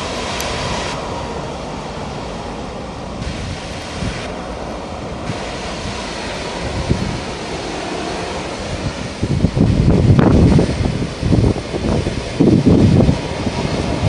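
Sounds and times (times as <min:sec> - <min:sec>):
jet engine noise: 0:00.0 - 0:14.0
wind on microphone: 0:00.0 - 0:14.0.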